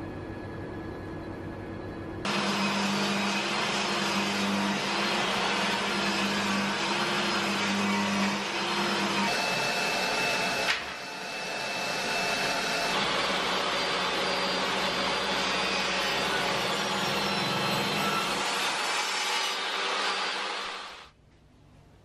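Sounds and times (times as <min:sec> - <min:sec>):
shop vacuum running: 0:02.2 - 0:21.2
table saw ripping wood: 0:02.3 - 0:21.1.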